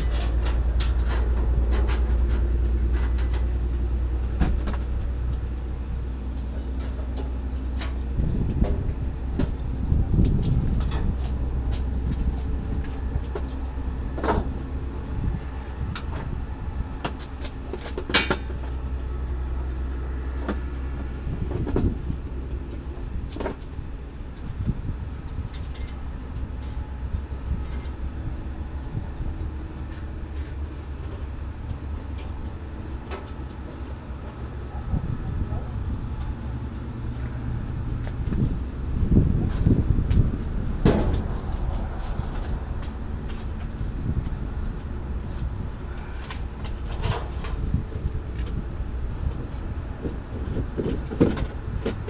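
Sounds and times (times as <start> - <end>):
vehicle engine idling: 0.0 - 52.0.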